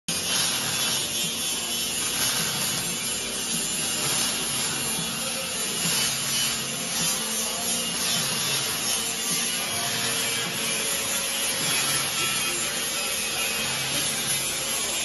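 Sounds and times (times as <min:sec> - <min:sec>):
angle grinder grinding steel: 0:00.1 - 0:15.0.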